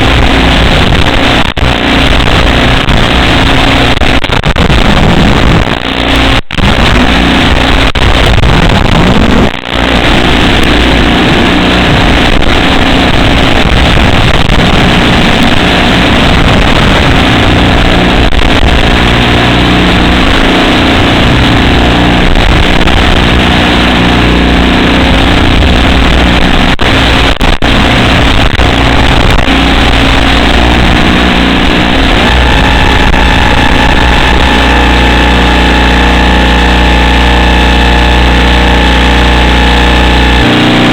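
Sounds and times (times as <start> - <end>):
drone motors and propellers: 4.7 - 40.9.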